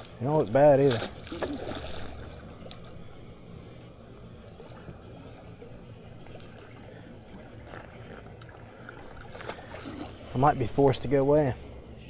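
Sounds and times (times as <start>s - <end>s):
low even hum: 0.0s - 12.0s
water trickling: 0.0s - 12.0s.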